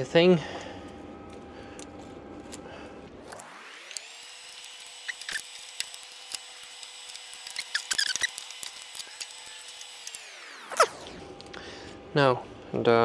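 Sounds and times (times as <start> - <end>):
steady high hum: 0.0 - 7.6, 8.7 - 13.0.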